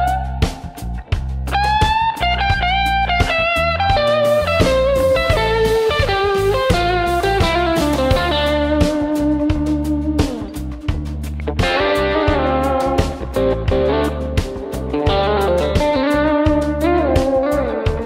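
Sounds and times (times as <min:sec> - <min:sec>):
drum kit: 0:00.0 - 0:18.0
electric bass: 0:00.0 - 0:18.0
electric guitar lead: 0:00.0 - 0:18.0.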